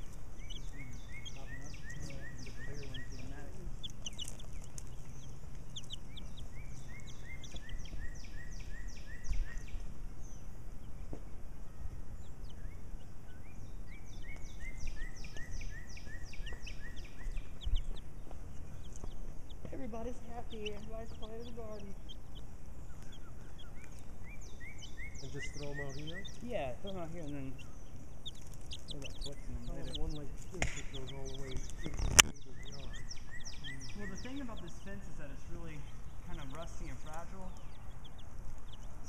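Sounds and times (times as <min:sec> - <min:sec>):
birds chirping: 0:00.0 - 0:39.0
outdoor background noise: 0:00.0 - 0:39.0.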